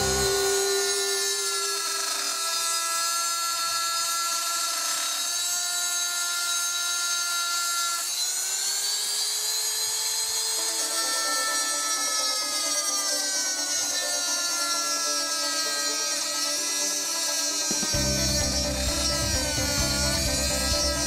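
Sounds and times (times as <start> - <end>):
rotary tool cutting wood: 0.0 - 21.0.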